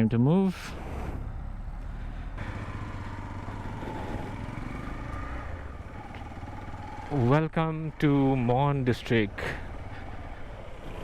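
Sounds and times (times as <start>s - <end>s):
motorcycle engine rumbling: 0.5s - 11.0s.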